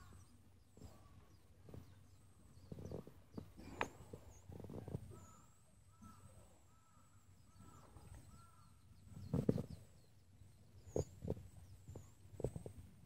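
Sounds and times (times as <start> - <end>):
faint birds calling: 0.0 - 13.0.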